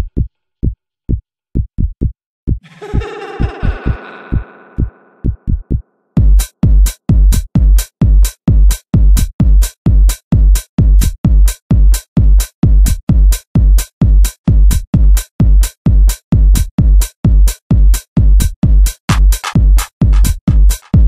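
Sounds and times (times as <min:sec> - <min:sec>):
drum machine bass thuds: 0:00.0 - 0:17.0, 0:18.3 - 0:21.0.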